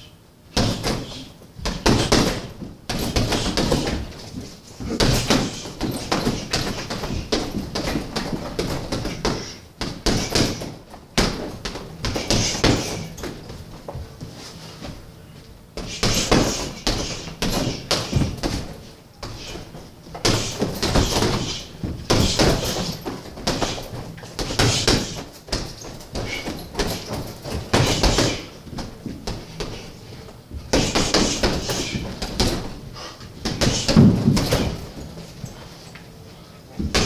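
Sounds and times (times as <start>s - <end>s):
punches thudding on heavy bag: 0.5s - 13.6s, 15.8s - 29.9s, 30.5s - 32.8s, 33.4s - 35.1s, 36.8s - 37.0s.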